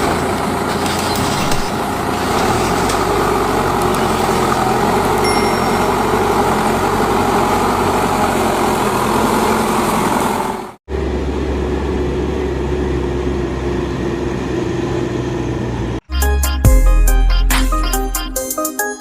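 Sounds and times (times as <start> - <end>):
heavy vehicle engine running: 0.0 - 16.6.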